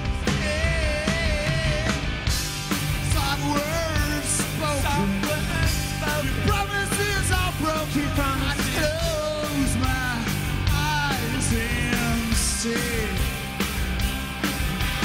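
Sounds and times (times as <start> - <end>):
man singing lead vocal: 0.0 - 2.3, 3.0 - 13.4
rock band playing live: 0.0 - 15.0.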